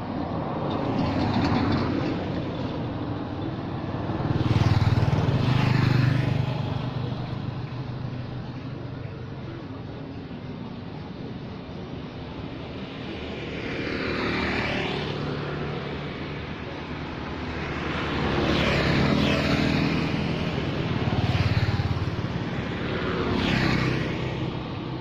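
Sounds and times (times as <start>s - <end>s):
motorbikes passing: 0.0s - 25.0s
vehicles passing by: 0.0s - 25.0s.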